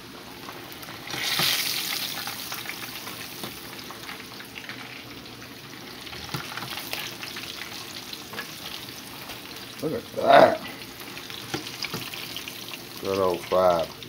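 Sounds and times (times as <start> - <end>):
fish frying in hot grease: 0.0 - 14.0.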